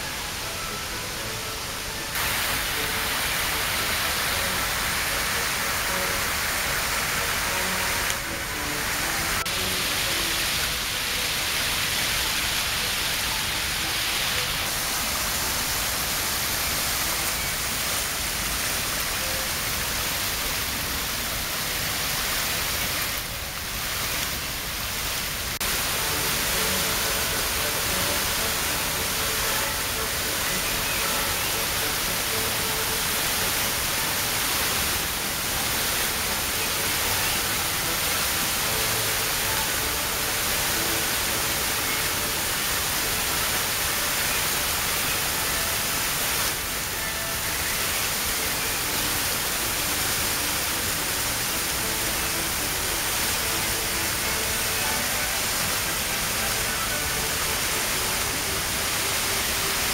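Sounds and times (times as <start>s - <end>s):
water cascading down steps: 0.0s - 59.9s.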